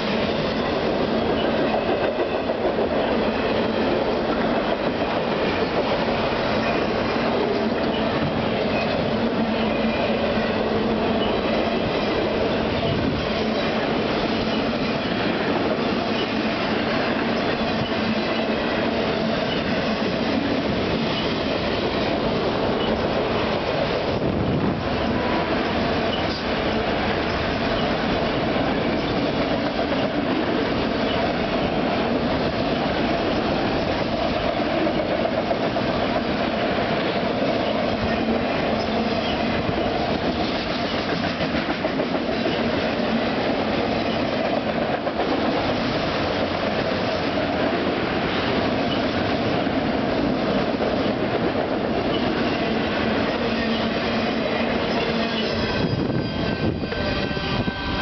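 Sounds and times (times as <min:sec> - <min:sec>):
clickety-clack over rail joints: 0:00.0 - 0:58.0
freight train wheels rumbling: 0:00.0 - 0:58.0.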